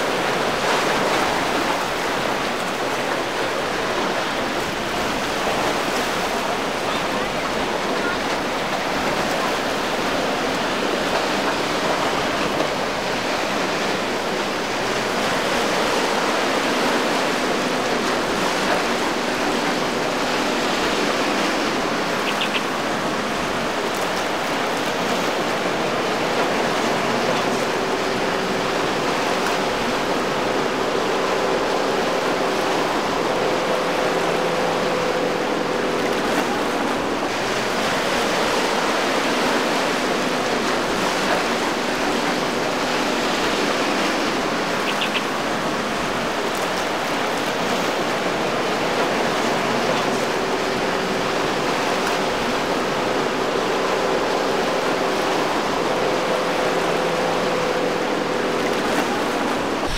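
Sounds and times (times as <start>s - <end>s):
faint outboard motor hum: 0.0s - 59.9s
surf breaking: 0.0s - 59.9s.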